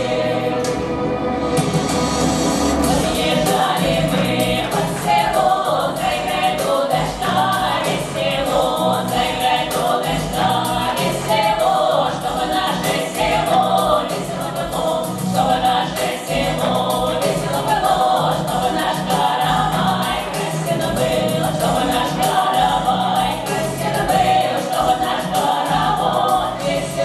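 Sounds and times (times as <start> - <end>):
women's vocal group singing: 0.0 - 1.4, 2.8 - 27.0
accompaniment with steady beat: 0.0 - 27.0.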